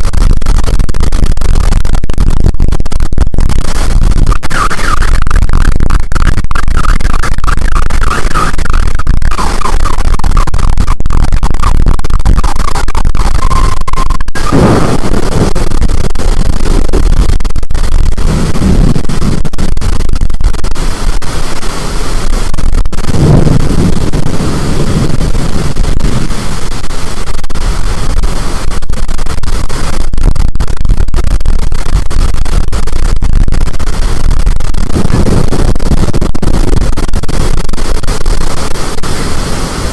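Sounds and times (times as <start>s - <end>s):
storm wind distorted rush: 0.0s - 39.9s.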